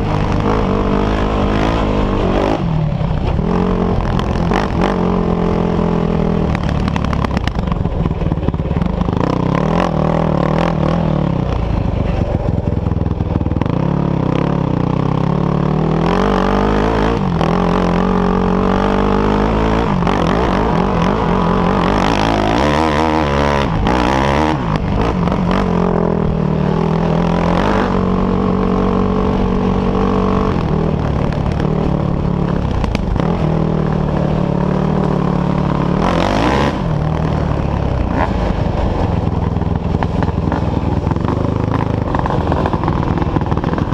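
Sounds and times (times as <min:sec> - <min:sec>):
off-road engines revving: 0:00.0 - 0:43.9.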